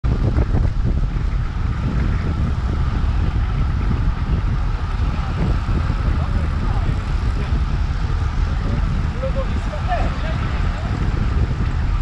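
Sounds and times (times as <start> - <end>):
bicycle tyres rolling on asphalt: 0.0 - 12.0
wind buffeting microphone: 0.0 - 12.0.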